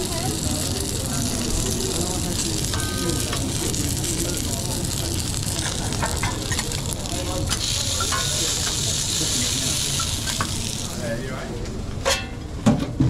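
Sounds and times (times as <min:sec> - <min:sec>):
food sizzling in a frying pan: 0:00.0 - 0:11.6.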